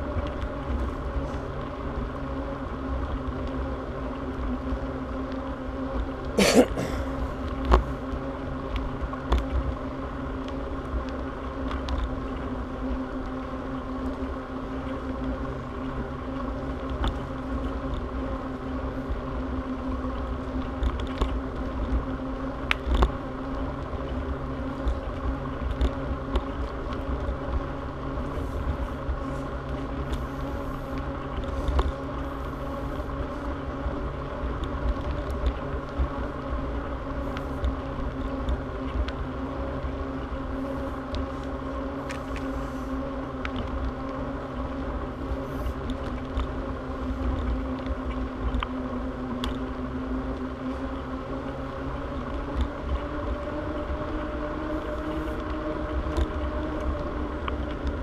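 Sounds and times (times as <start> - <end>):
bicycle tyres and drivetrain whir: 0.0 - 58.0
wind rumbling on microphone: 6.9 - 58.0.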